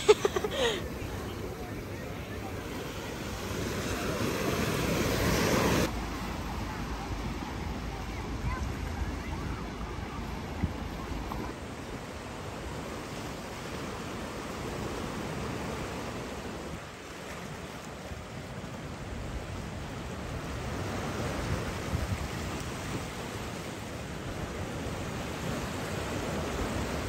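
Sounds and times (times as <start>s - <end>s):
small waves breaking on sand: 0.0s - 27.0s.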